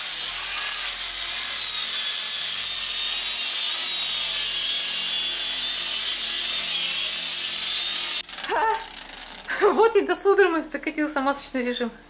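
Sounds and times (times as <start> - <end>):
electric sander on wooden floor: 0.0 - 9.8.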